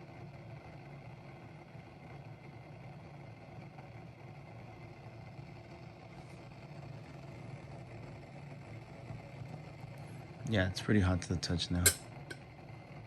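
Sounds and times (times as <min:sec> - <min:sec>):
water simmering in metal boiler: 0:00.0 - 0:13.0.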